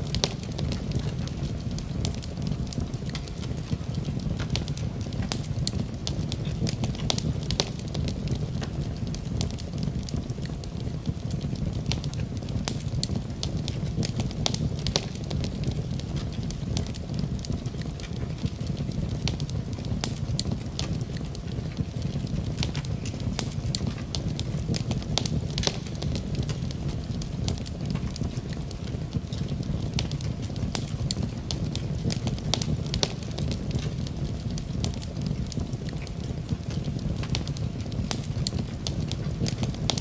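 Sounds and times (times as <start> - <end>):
steady rain: 0.0 - 40.0
wood fire crackling: 0.0 - 40.0.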